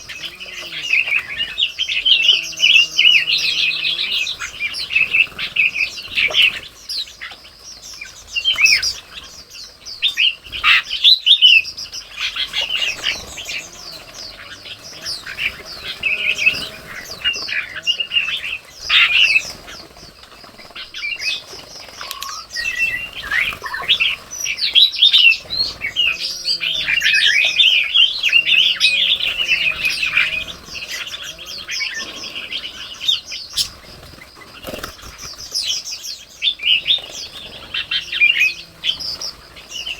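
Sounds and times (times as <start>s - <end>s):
birds chirping and chattering: 0.0s - 39.9s
low warbling bird calls: 0.0s - 39.9s.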